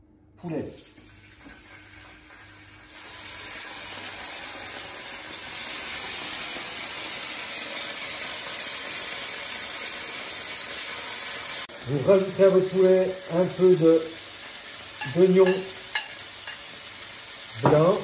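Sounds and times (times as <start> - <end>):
chicken sizzling in frying pan: 0.8 - 18.0.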